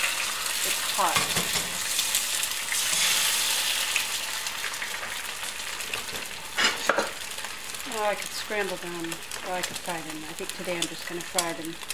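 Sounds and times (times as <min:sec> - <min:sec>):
eggs sizzling in a skillet: 0:00.0 - 0:11.9.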